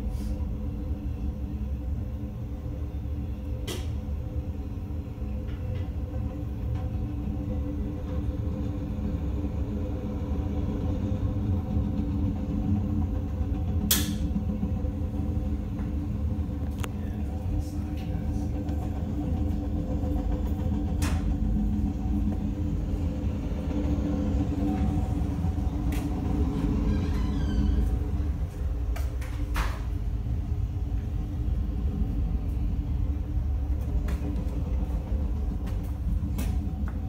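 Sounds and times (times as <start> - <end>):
freight train wheels rumbling: 0.0 - 37.0.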